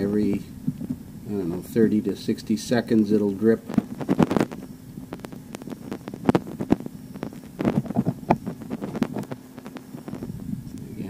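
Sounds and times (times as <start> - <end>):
fuel pump humming: 0.0 - 11.0.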